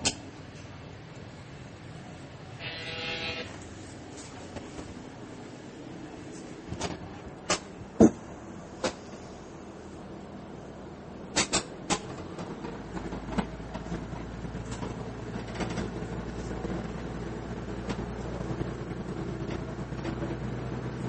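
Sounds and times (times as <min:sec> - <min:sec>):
railcar low rumble: 0:00.0 - 0:21.0.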